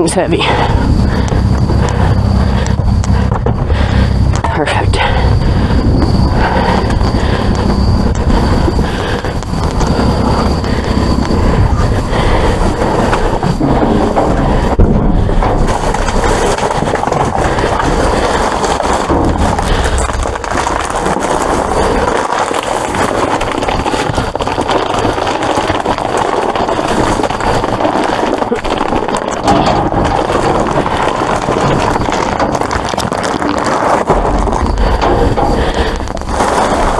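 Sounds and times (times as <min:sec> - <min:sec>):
small knocks and crackles: 0:00.7 - 0:36.9.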